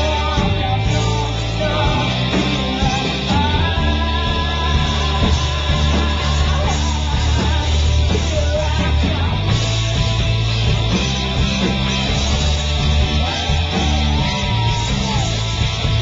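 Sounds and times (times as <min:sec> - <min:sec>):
drums: 0:00.0 - 0:16.0
electric guitars: 0:00.0 - 0:16.0.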